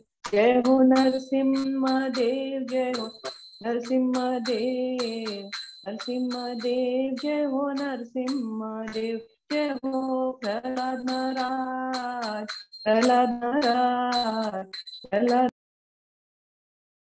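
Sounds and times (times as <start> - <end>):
woman singing a chant: 0.3 - 15.5.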